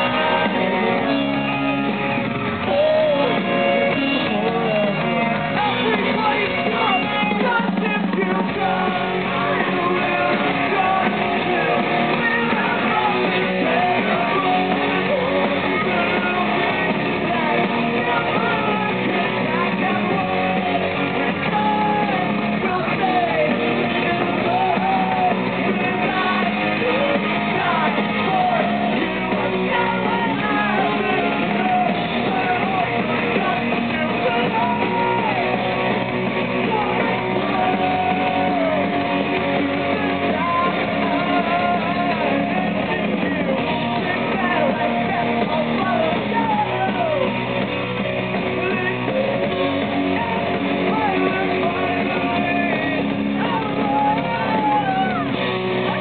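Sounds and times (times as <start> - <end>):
person singing lead vocal: 0.0 - 47.6, 48.3 - 56.0
bass: 0.0 - 56.0
distorted electric guitars: 0.0 - 56.0
drums: 0.0 - 56.0.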